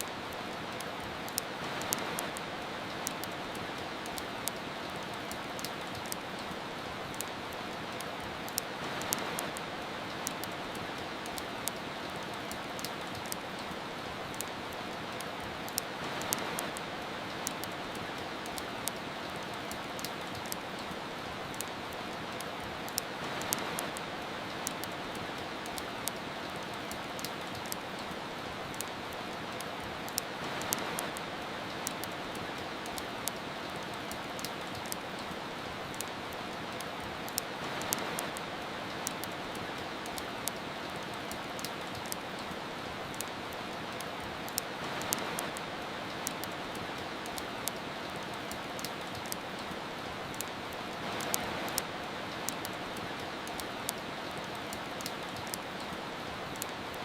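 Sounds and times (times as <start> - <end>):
rain hissing: 0.0 - 57.0
wood fire crackling and popping: 0.0 - 57.0.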